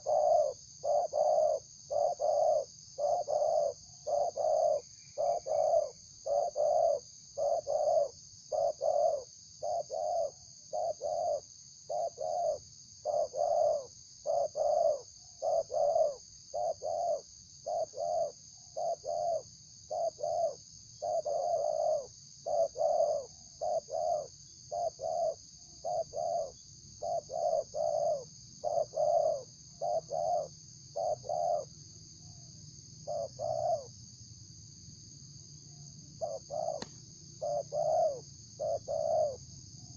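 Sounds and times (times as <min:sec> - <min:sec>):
dove cooing: 0:00.0 - 0:31.7, 0:33.0 - 0:33.9, 0:36.2 - 0:39.4.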